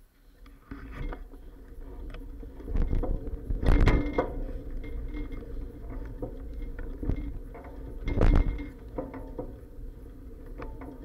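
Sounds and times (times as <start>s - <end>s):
low rolling rumble: 0.9s - 11.0s
bicycle clacks and bumps: 1.0s - 11.0s.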